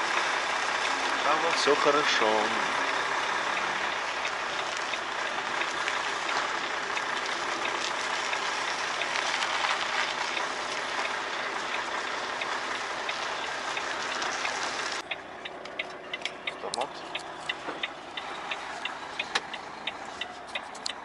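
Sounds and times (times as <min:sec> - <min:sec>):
sharp ticks: 0:02.9 - 0:21.0.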